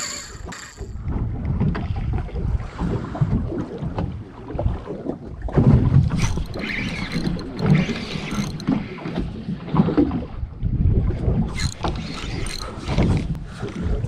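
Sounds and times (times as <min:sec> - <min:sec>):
water sloshing against hull: 0:00.0 - 0:14.0.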